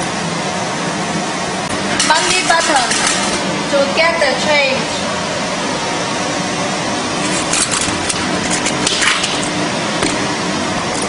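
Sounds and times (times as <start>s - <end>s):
vending machine motor and fan hum: 0.0s - 11.0s.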